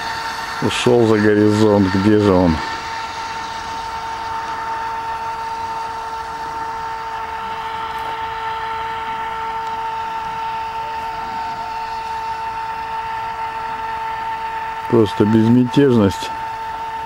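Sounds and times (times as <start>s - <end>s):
model boat motor whine: 0.0s - 17.0s.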